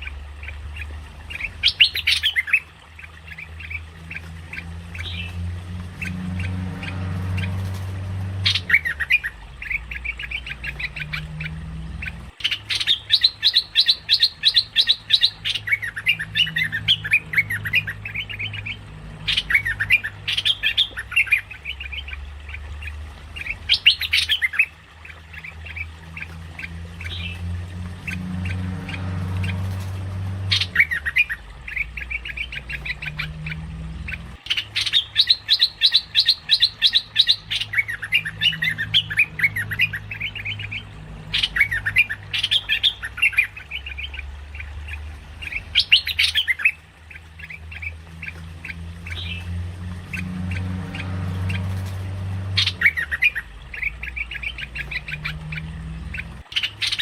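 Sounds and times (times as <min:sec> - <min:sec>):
bulbul chattering chirps: 0:00.0 - 0:05.4, 0:08.4 - 0:57.0
low background hum: 0:00.0 - 0:57.0.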